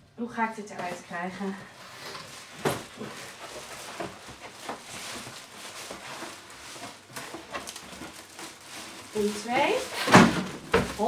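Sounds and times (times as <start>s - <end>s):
cardboard and plastic rustling: 0.4s - 11.0s.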